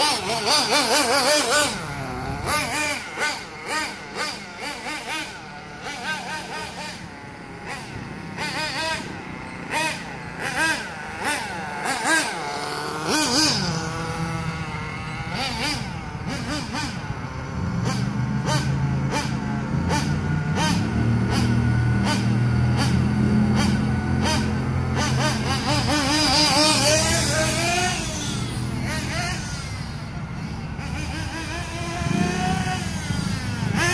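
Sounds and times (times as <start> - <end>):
model buggy engine revving: 0.0 - 33.9.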